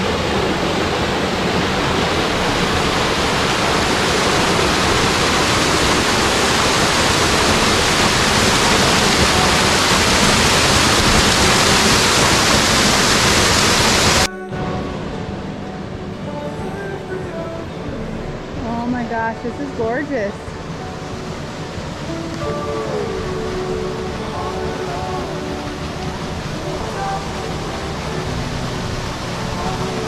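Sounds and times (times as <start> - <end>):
waterfall rushing into a pool: 0.0 - 30.0.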